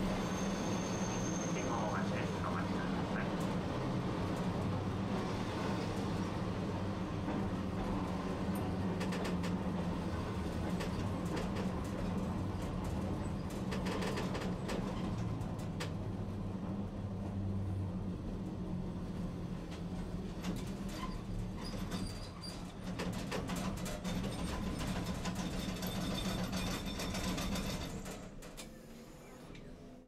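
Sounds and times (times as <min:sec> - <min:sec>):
streetcar hum: 0:00.0 - 0:30.0.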